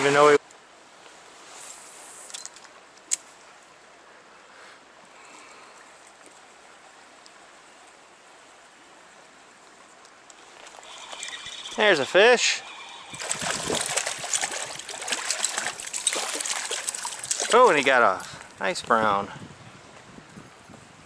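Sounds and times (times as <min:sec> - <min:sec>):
stream flowing: 0:00.0 - 0:18.8.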